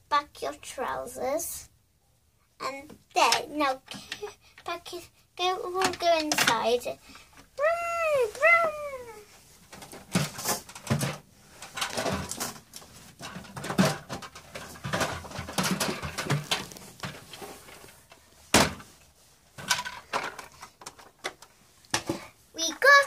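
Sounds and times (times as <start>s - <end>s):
plastic toys knocking and rustling: 2.8s - 9.0s, 9.6s - 23.0s.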